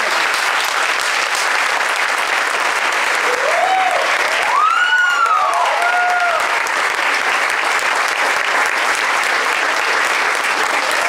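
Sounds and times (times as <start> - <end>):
audience applauding: 0.0 - 11.0
people cheering: 0.0 - 11.0.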